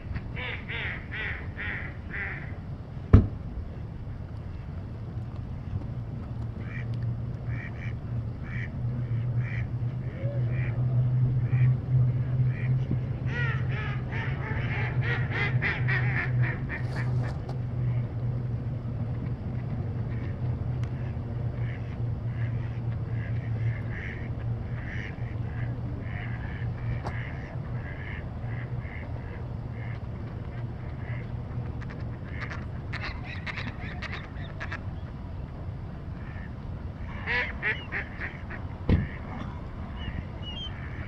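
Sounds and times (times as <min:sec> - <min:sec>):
steady low hum: 0:00.0 - 0:41.0
ducks calling: 0:00.1 - 0:02.6, 0:06.6 - 0:18.0, 0:19.5 - 0:35.1, 0:36.2 - 0:41.0.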